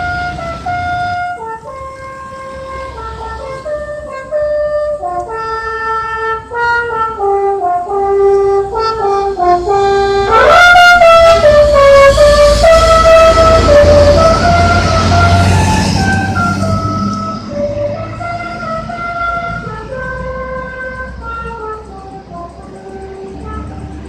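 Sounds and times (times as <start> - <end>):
multi-tone bus horn tune: 0.0 - 24.0.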